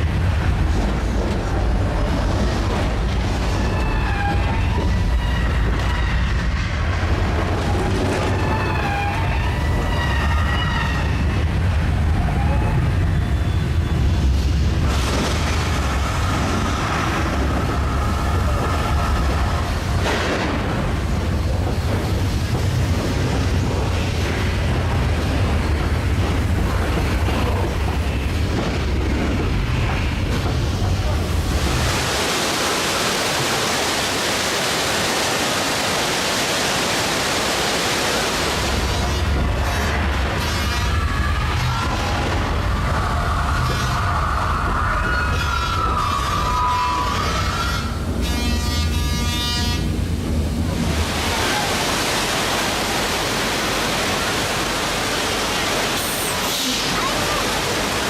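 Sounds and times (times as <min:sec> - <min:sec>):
flood water rushing: 0:00.0 - 0:58.0.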